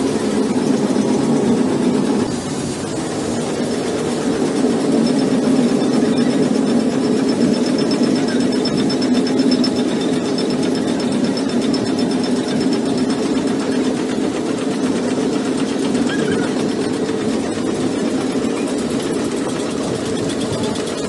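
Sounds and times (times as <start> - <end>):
machine mechanical clatter: 0.0 - 21.0
motor hum: 0.0 - 21.0.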